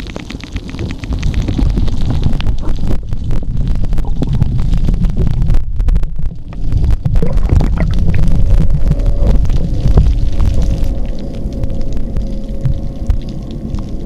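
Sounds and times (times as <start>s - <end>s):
underwater low rumble: 0.0s - 14.0s.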